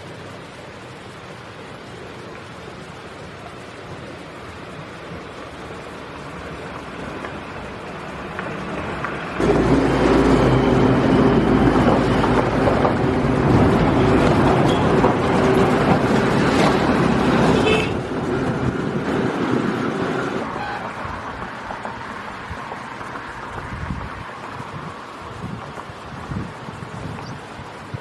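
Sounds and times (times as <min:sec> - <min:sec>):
engine-like rumble with hiss: 0:00.0 - 0:28.0.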